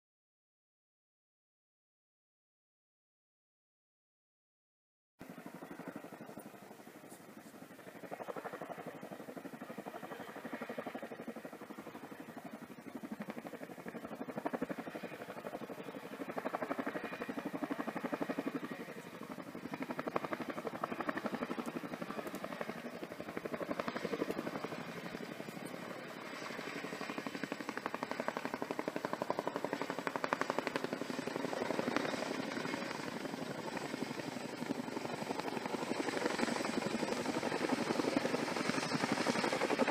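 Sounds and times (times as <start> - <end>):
helicopter rotor beating: 5.2 - 39.9.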